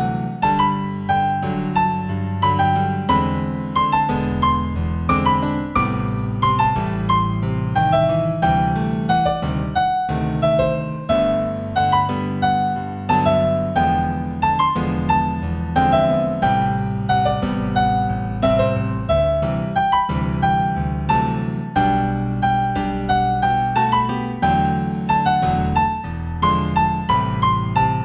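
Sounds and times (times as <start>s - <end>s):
slow gentle piano piece: 0.0s - 28.0s.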